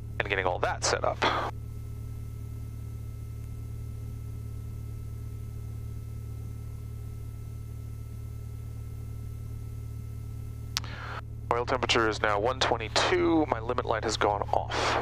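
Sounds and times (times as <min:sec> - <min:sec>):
aircraft engine idling drone: 0:00.0 - 0:15.0.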